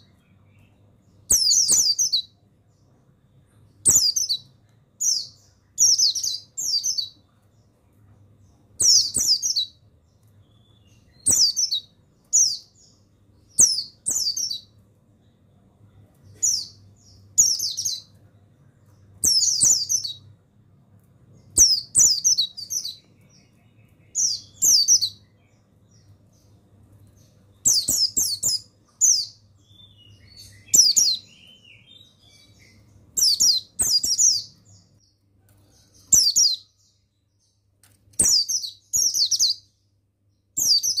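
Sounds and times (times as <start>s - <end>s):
bird twittering chirps: 0.0s - 7.7s, 8.4s - 15.5s, 16.2s - 20.3s, 21.4s - 35.1s, 38.2s - 39.8s, 40.4s - 41.0s
faint low hum: 0.0s - 41.0s.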